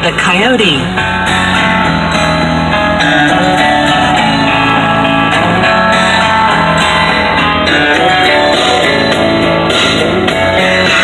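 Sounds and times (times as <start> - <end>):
country music on car radio: 0.0 - 11.0.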